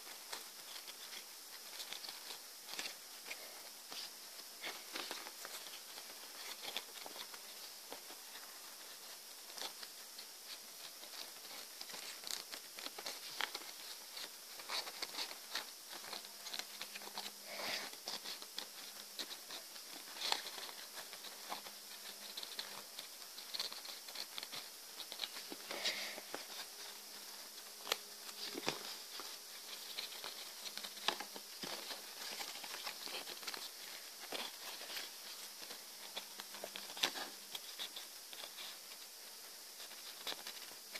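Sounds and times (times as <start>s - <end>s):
paper rustling and crinkling: 0.0s - 40.9s.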